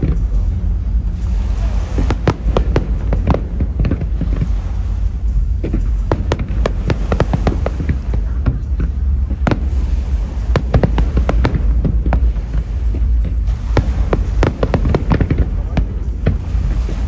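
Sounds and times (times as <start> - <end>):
deep rumble: 0.0 - 17.0
fireworks bangs and crackles: 0.0 - 17.0.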